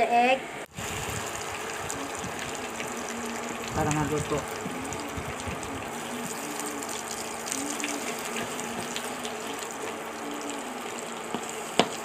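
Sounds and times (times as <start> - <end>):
food sizzling in hot oil: 0.7 - 12.0.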